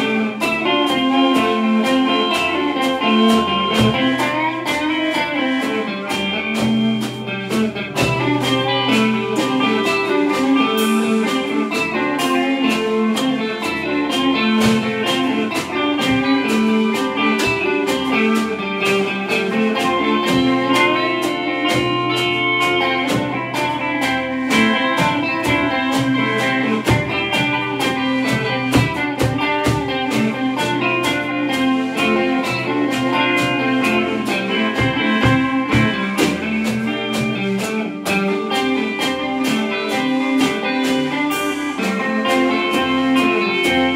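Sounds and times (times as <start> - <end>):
drum kit steady beat: 0.0 - 43.9
electric guitars playing rock: 0.0 - 43.9.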